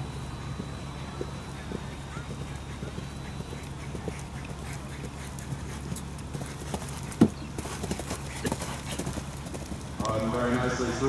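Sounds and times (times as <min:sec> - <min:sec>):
horse hooves cantering: 0:00.0 - 0:11.0.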